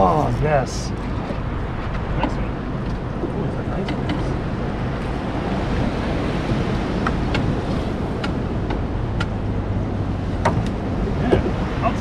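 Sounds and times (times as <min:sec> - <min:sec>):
wind buffeting microphone: 0:00.0 - 0:12.0
water lapping at hull: 0:00.9 - 0:12.0.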